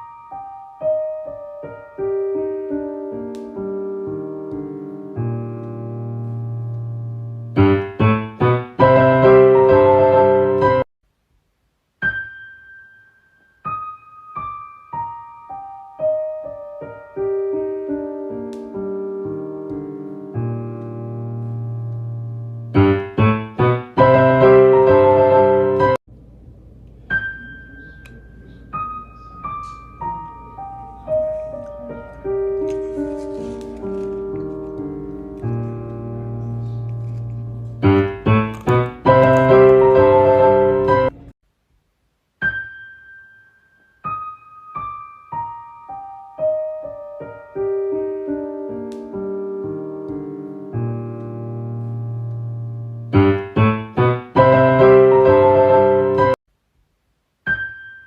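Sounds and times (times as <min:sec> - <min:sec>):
solo piano melody: 0:00.0 - 0:10.9, 0:11.8 - 0:41.4, 0:42.4 - 0:56.4, 0:57.4 - 0:58.0
faint steady hiss: 0:10.6 - 0:58.0.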